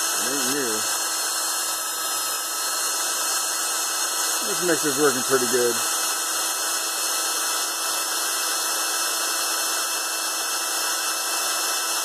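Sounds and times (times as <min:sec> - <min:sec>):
electric drill whirring: 0:00.0 - 0:12.0.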